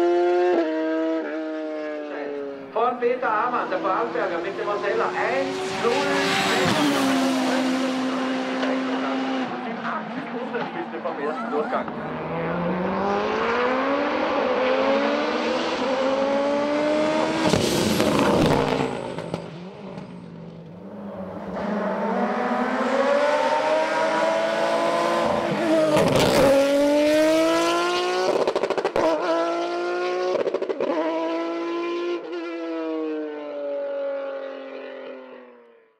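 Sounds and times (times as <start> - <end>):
race car engine accelerating: 0.0 - 2.7, 3.3 - 35.6.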